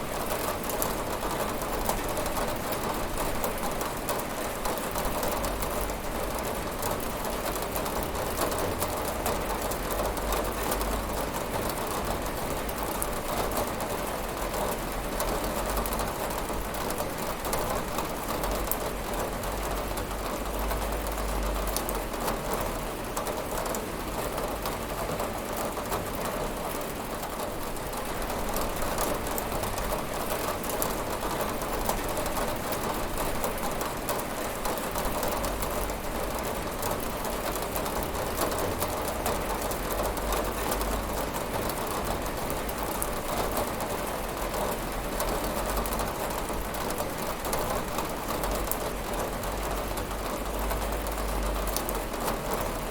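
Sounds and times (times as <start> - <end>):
rain on a window: 0.0 - 52.9.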